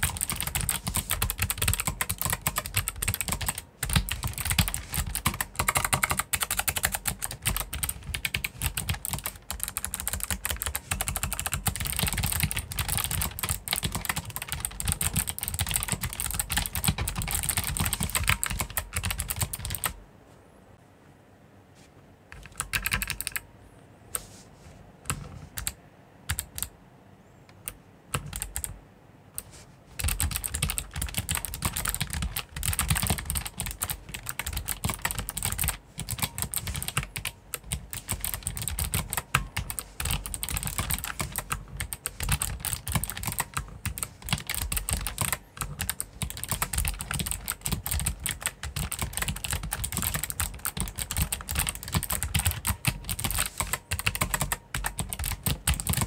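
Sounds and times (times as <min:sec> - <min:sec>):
typing on mechanical keyboard: 0:00.0 - 0:20.0, 0:22.3 - 0:23.4, 0:25.1 - 0:26.7, 0:27.6 - 0:28.8, 0:29.4 - 0:56.0.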